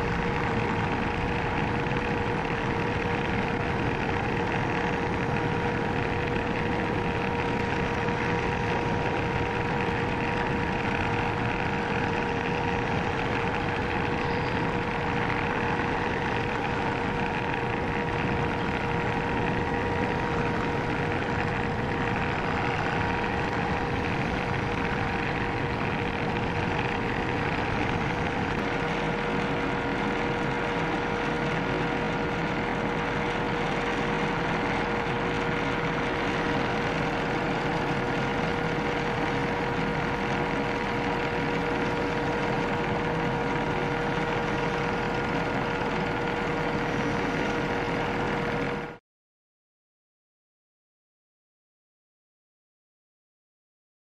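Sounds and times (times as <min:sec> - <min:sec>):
lathe humming and whining: 0:00.0 - 0:49.0.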